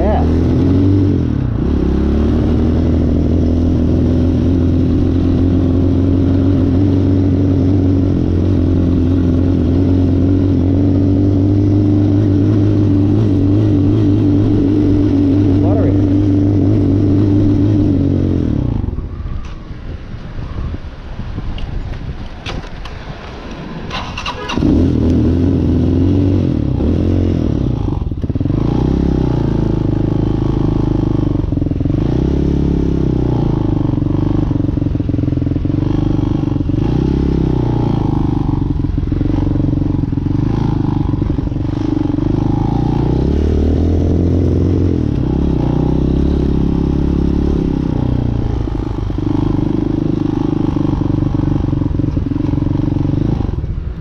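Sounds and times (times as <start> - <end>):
motorcycle engine running: 0.0 - 20.1, 23.5 - 54.0.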